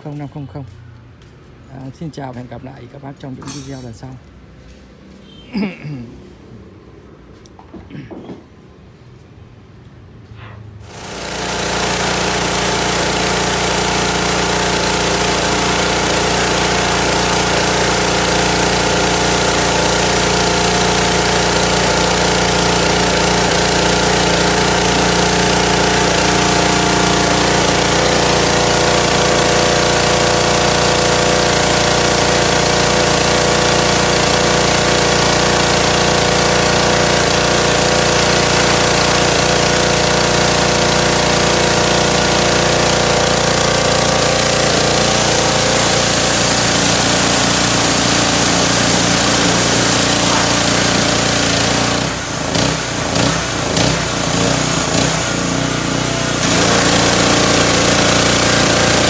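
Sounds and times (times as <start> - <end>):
high-pressure water jet hissing: 10.8 - 59.0
small engine humming: 10.8 - 59.0.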